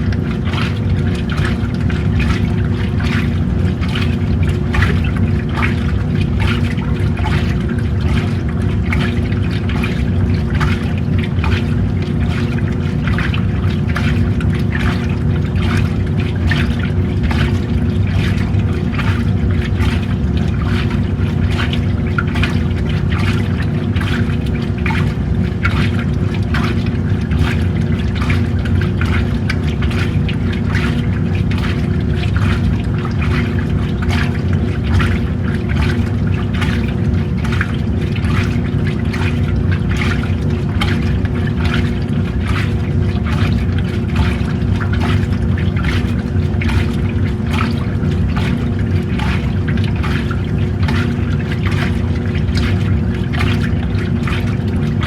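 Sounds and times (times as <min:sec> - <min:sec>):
washing machine motor hum: 0:00.0 - 0:55.0
water sloshing in a tub: 0:00.0 - 0:55.0.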